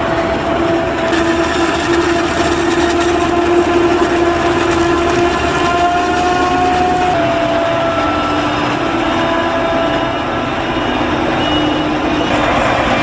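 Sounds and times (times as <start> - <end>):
forage harvester droning and whining: 0.0 - 13.0
tractor engine: 0.0 - 13.0.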